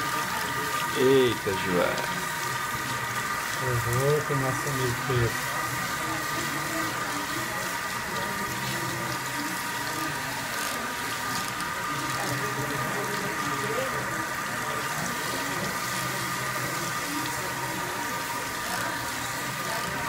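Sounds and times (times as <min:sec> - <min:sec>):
water running from hand sprayer: 0:00.0 - 0:20.0.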